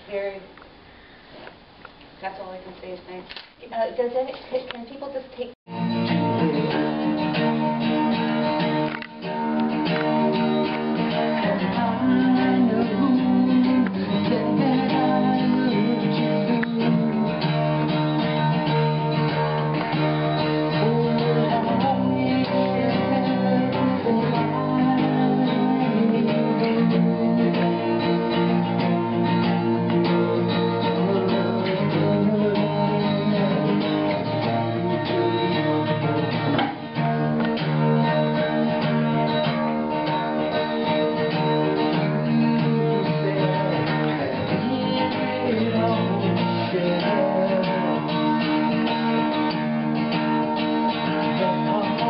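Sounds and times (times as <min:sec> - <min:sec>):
acoustic guitar strumming: 0:05.7 - 0:52.0.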